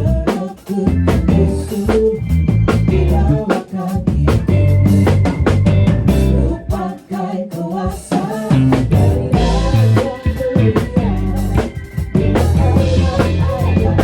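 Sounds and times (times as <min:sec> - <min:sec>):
band playing a song: 0:00.0 - 0:14.0
drum kit beat: 0:00.0 - 0:14.0.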